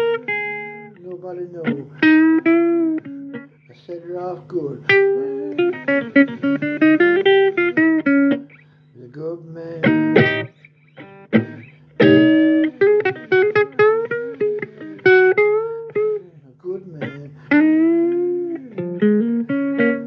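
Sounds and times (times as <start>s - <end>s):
blues guitar music: 0.0s - 20.0s.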